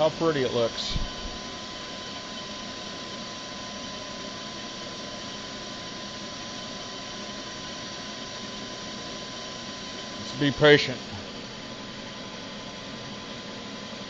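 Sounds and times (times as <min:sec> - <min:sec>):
milling machine spindle whining: 0:00.0 - 0:14.0.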